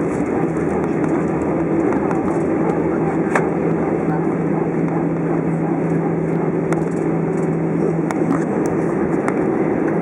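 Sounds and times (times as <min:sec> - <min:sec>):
aircraft cabin low rumble: 0:00.0 - 0:10.0
constant hum: 0:00.0 - 0:10.0.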